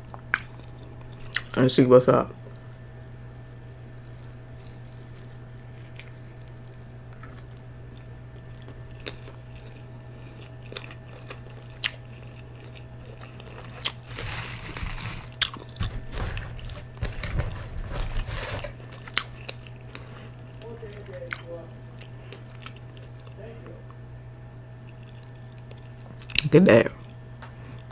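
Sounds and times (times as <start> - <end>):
crunchy bites and chewing: 0.0 - 24.0
steady low hum: 0.0 - 27.9.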